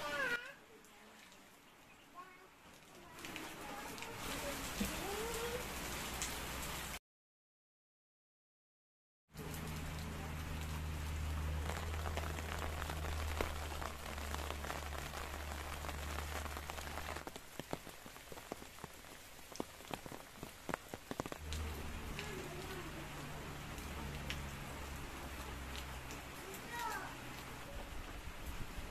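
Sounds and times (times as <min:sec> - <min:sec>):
rain pattering: 0:00.0 - 0:07.0, 0:09.3 - 0:28.9.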